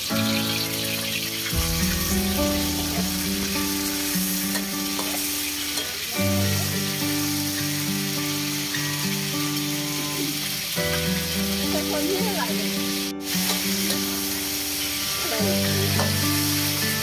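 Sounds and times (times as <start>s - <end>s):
background music: 0.0s - 17.0s
beef sizzling in oil: 0.0s - 17.0s.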